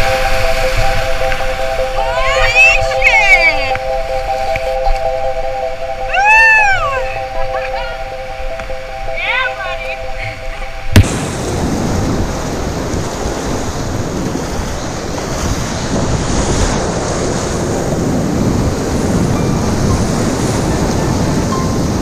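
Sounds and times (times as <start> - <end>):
whitewater rushing and crashing: 0.0 - 22.0.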